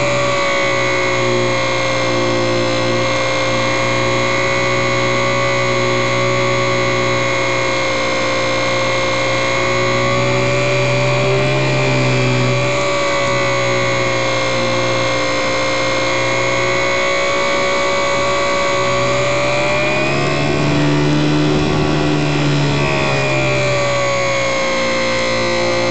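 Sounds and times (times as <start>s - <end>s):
model plane motor whine: 0.0s - 25.9s.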